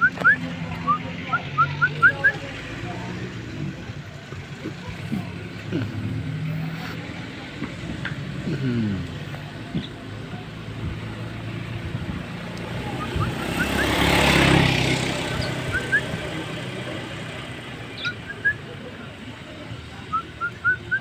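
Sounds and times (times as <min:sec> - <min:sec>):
road vehicle passing: 0:00.0 - 0:21.0.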